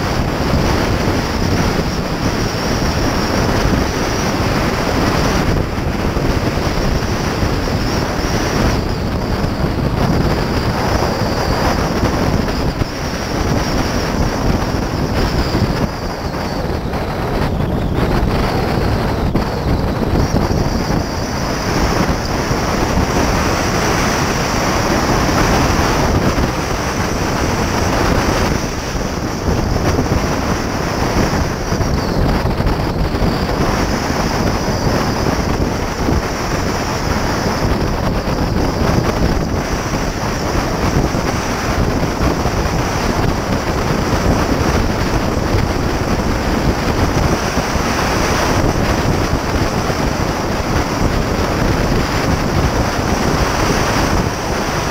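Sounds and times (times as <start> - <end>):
car road noise: 0.0 - 54.9
wind buffeting microphone: 0.0 - 54.9.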